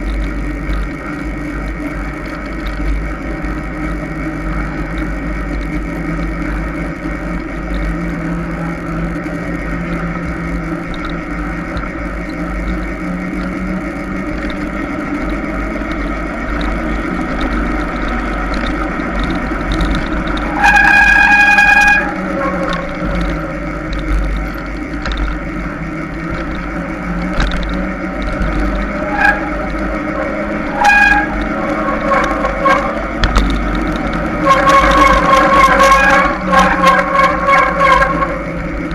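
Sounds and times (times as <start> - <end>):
bike tyres rolling on trail: 0.0 - 38.9
wind rumbling on microphone: 0.0 - 38.9.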